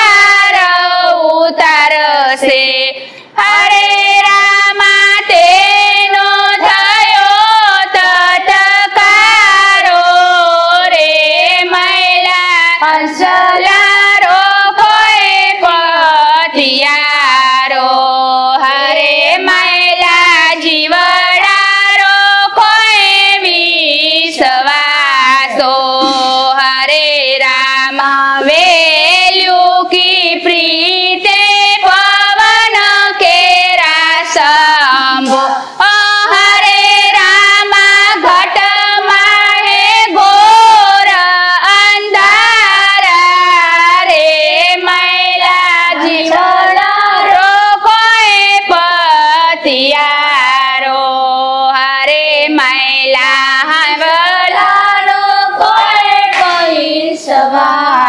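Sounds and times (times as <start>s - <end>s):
women singing in unison: 0.0s - 58.0s.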